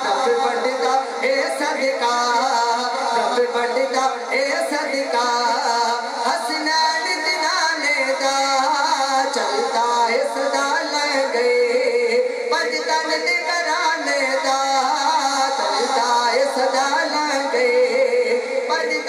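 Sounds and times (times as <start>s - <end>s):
man singing through pa system: 0.0s - 19.0s.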